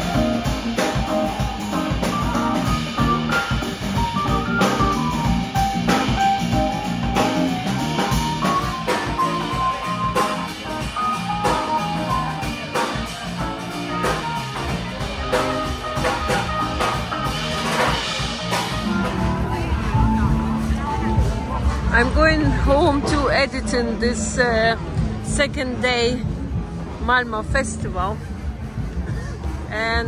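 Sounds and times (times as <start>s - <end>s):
electric guitar melody: 0.0s - 26.2s
drum kit beat: 0.0s - 30.0s.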